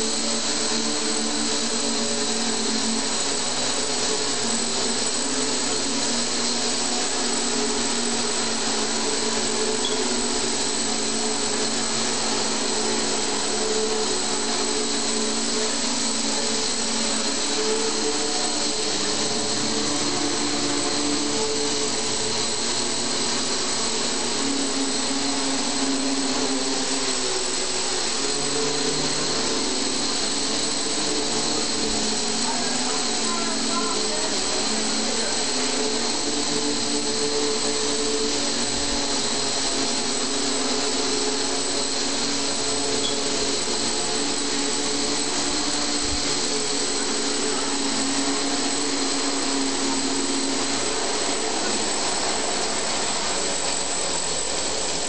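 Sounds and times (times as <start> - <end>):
multirotor drone buzzing: 0.0 - 55.0.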